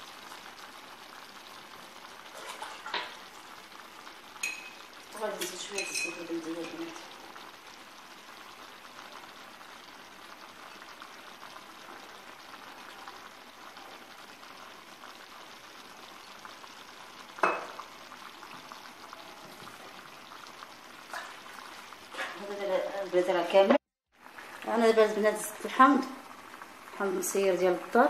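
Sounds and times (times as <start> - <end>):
clay pot sizzling: 0.0 - 28.0.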